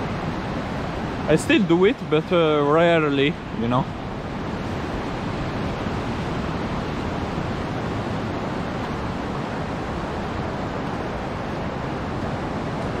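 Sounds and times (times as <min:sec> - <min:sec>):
ocean surf: 0:00.0 - 0:13.0
wind: 0:00.0 - 0:13.0.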